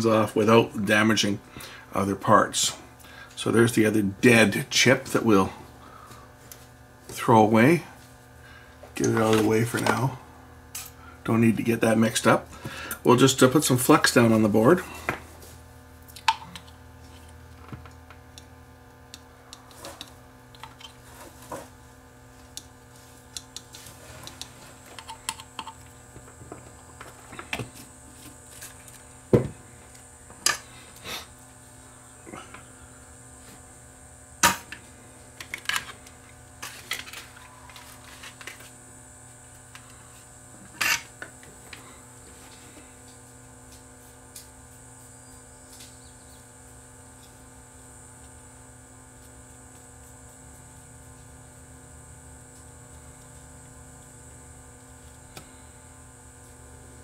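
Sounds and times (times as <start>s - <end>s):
faint electrical hum: 0.0s - 57.0s.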